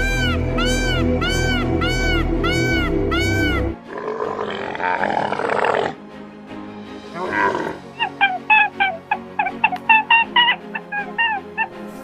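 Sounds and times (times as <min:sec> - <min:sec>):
harsh animal call: 0:00.0 - 0:06.0, 0:07.1 - 0:11.9
faint background music: 0:00.0 - 0:12.0.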